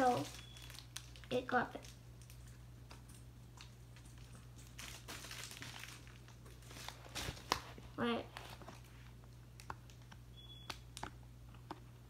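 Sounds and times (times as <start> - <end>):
packaging crinkling and rustling: 0.0 - 10.1
low steady hum: 0.0 - 12.0.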